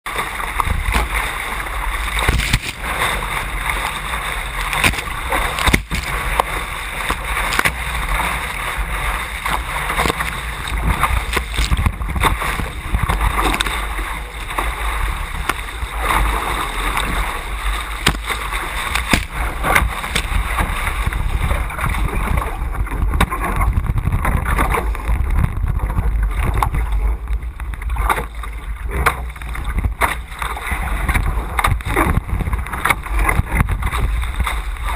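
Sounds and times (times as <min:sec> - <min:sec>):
water rushing along hull: 0:00.1 - 0:34.9
wind buffeting microphone: 0:00.4 - 0:34.9.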